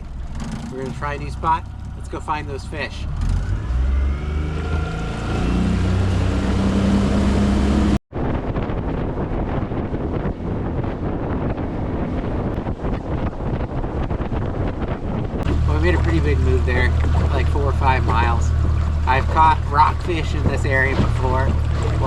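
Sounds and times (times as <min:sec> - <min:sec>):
outboard motor throttling up: 0:00.0 - 0:08.0, 0:10.6 - 0:22.0
wind noise on microphone: 0:00.0 - 0:22.0.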